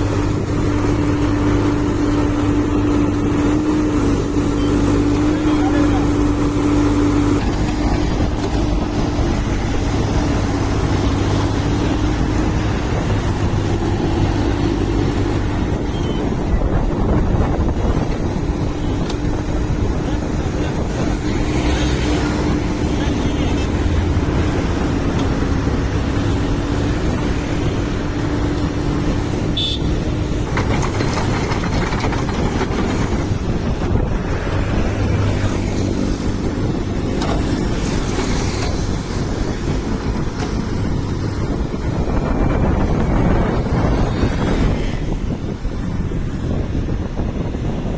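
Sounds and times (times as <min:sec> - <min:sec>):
engine running steadily: 0:00.0 - 0:47.9.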